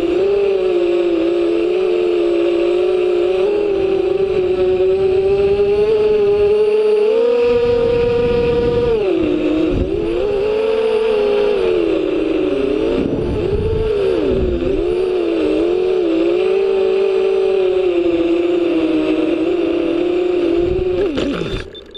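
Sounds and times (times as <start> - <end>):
drone motors and propellers whining: 0.0 - 21.9.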